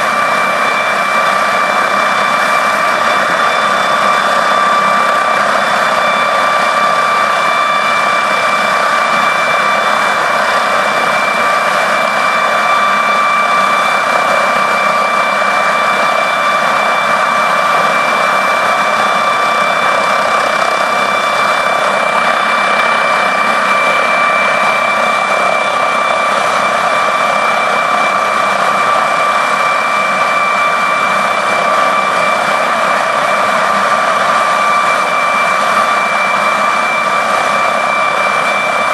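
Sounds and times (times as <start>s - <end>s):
helicopter turbine engines whining: 0.0s - 38.9s.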